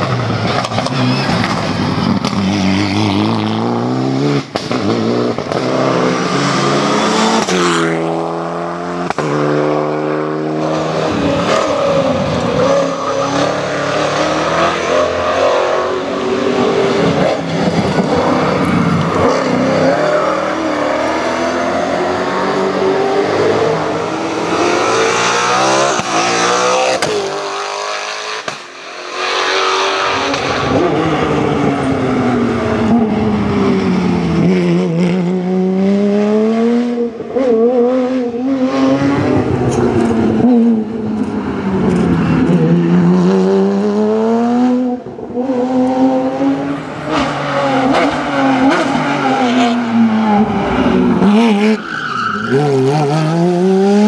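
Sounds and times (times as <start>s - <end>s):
race car engines at full throttle: 0.0s - 54.0s.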